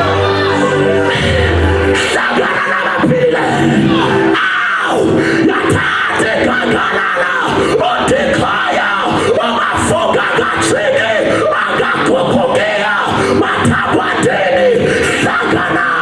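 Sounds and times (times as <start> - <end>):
church worship music: 0.0 - 16.0
many voices singing and shouting: 0.0 - 16.0.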